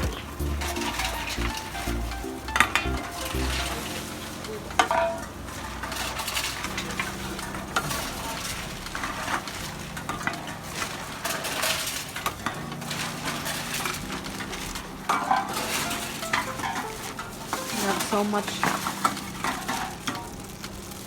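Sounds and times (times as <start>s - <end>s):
cans and bottles clattering: 0.0s - 20.8s.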